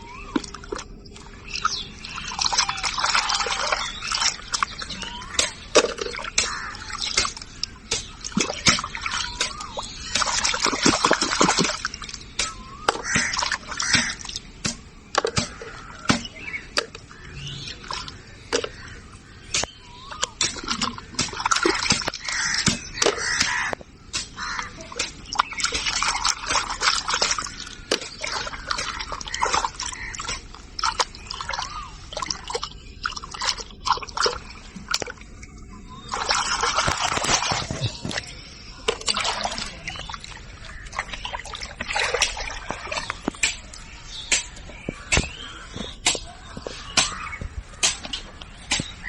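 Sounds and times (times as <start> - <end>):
water dripping: 0.0 - 49.0
water splashing: 0.0 - 49.0.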